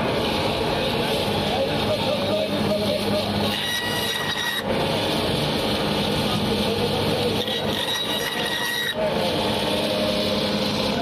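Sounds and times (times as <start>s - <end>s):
band saw cutting fish: 0.0s - 11.0s.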